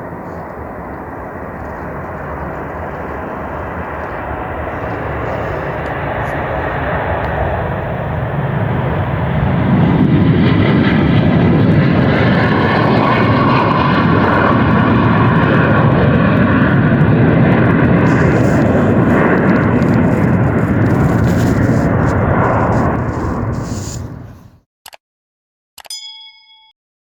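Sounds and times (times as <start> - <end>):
airplane engines rumbling: 0.0 - 24.6.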